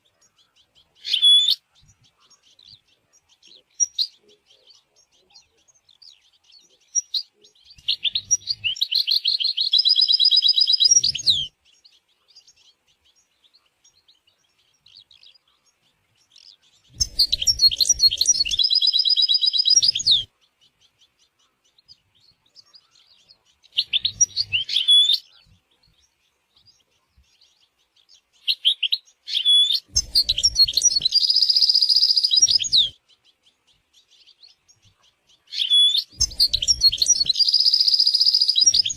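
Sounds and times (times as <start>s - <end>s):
faint bird chirps: 0.0s - 38.9s
goldfinch twittering song: 0.0s - 38.9s.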